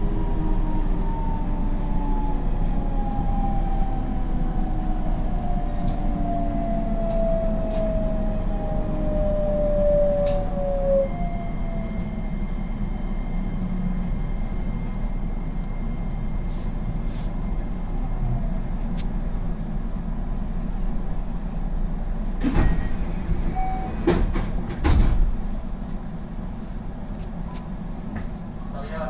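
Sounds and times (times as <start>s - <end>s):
train cabin hum: 0.0s - 29.0s.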